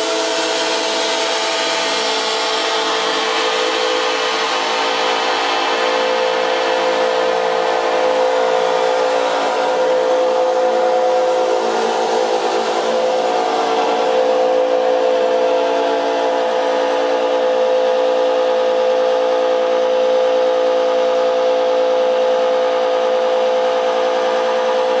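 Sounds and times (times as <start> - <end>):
loud steady drone: 0.0 - 25.0.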